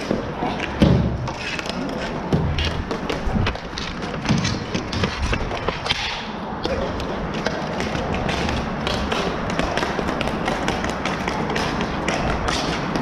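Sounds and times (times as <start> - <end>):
hockey sticks clacking on ball: 0.0 - 13.0.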